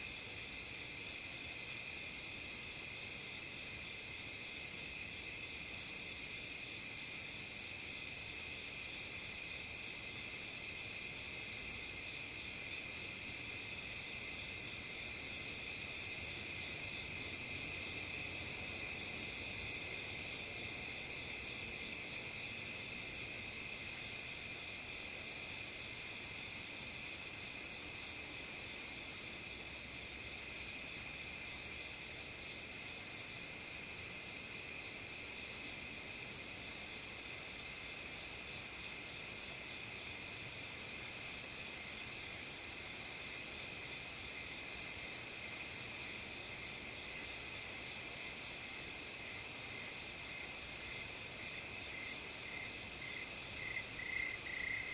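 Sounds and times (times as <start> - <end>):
crickets and insects trilling: 0.0 - 54.9.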